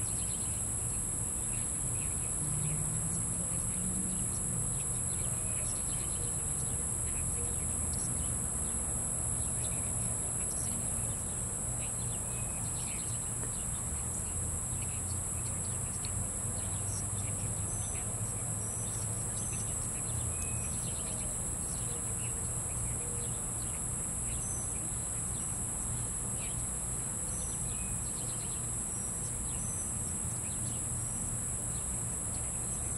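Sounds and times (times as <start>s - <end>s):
high-pitched insect chorus: 0.0s - 32.9s.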